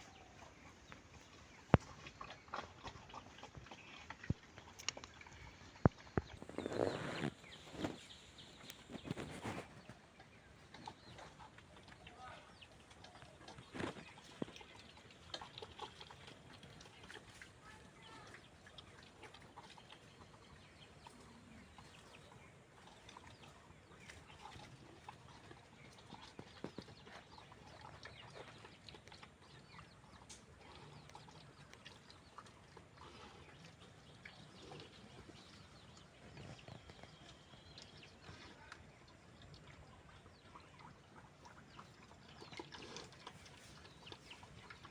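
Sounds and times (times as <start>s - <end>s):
pigs snuffling: 0.0s - 44.9s.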